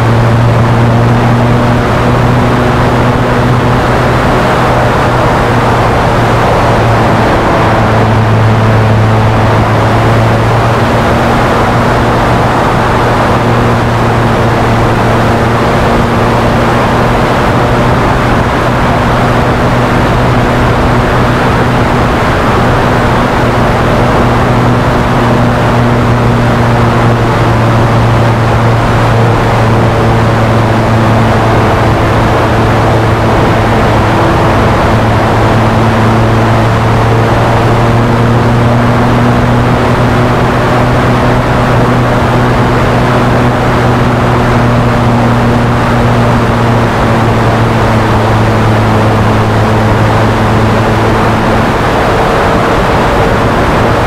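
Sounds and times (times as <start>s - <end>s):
model airplane engine drone: 0.0s - 54.0s.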